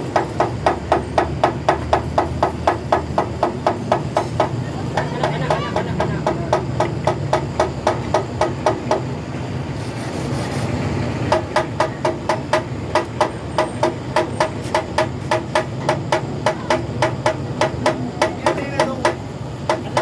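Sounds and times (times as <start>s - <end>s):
hammer tapping metal: 0.0s - 9.1s, 11.3s - 20.0s.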